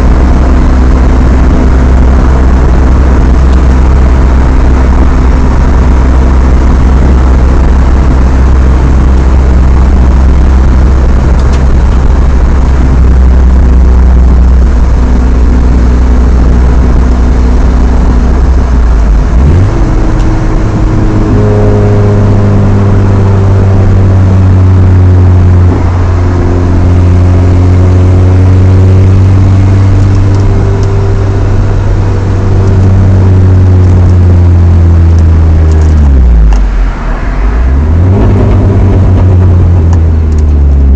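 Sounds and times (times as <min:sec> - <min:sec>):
engine droning from inside cab: 0:00.0 - 0:40.9.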